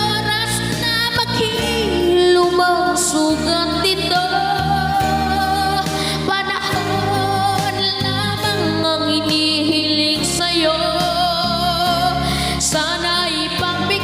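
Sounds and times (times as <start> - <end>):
slow pop ballad backing: 0.0 - 14.0.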